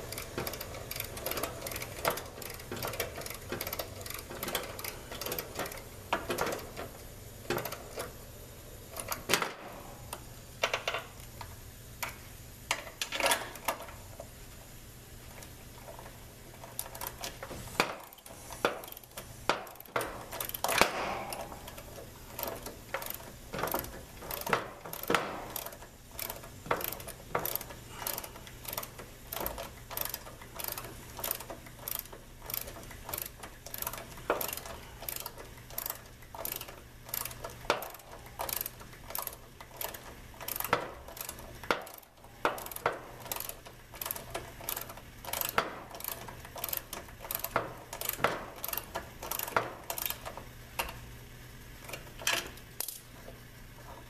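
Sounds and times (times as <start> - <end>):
ratchet wrench clicking: 0.0 - 8.2, 8.9 - 9.5, 15.3 - 51.0.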